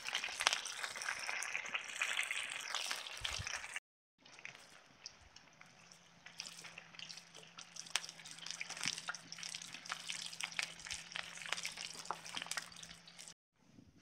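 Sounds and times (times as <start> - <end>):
oil sizzling and popping: 0.0 - 13.4.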